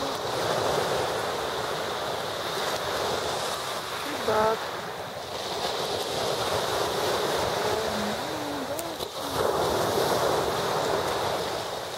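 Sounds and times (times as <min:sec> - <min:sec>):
surf on pebble beach: 0:00.0 - 0:11.9.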